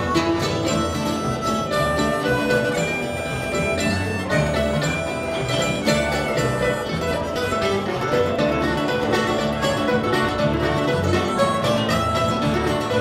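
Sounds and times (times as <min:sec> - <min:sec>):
live band playing: 0:00.0 - 0:13.0
plucked upright bass: 0:00.0 - 0:13.0.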